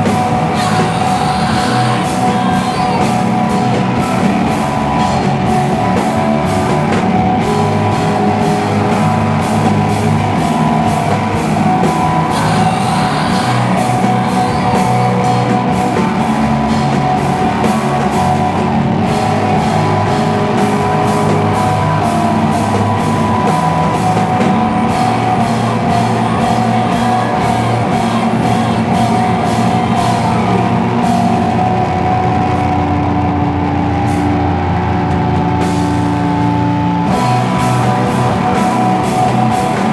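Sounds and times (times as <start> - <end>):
distorted electric guitars: 0.0 - 39.9
drum kit beat: 0.0 - 39.9.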